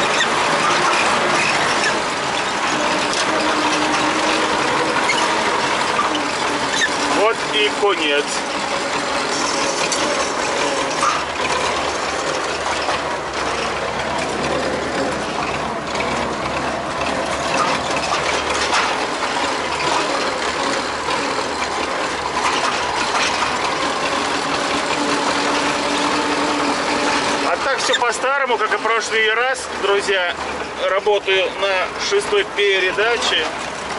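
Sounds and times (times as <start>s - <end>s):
machinery clattering and rattling: 0.0s - 33.9s
tractor engine running: 0.0s - 33.9s.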